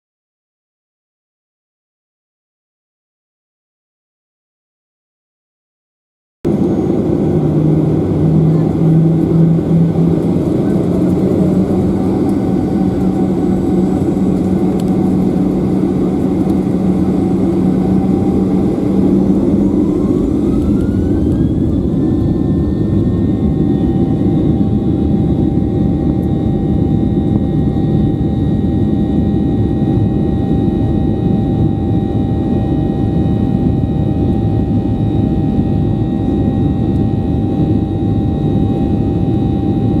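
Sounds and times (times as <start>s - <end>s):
jet engines rumbling and whining: 6.5s - 40.0s.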